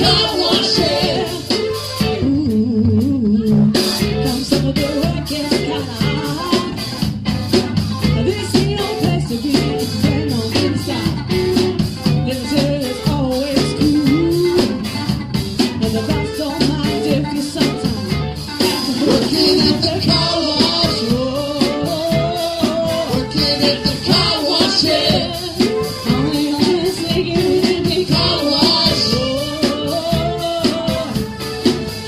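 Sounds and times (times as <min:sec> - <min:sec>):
female lead vocal: 0:00.0 - 0:07.0, 0:08.0 - 0:11.4, 0:12.2 - 0:15.0, 0:15.7 - 0:31.3
bass guitar: 0:00.0 - 0:32.0
drum kit with fast hi-hat: 0:00.0 - 0:32.0
electric guitars: 0:00.0 - 0:32.0.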